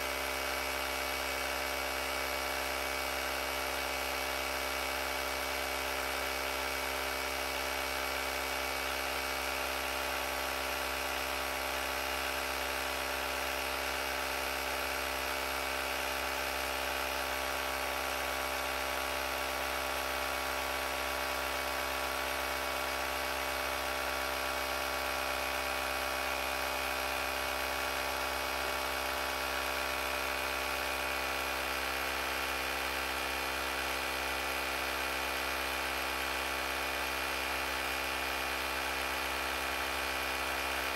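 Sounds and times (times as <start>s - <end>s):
electric compressor running: 0.0s - 40.9s.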